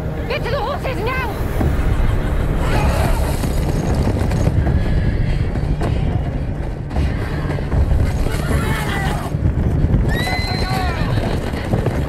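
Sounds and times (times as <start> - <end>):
horses galloping: 1.5 - 12.0.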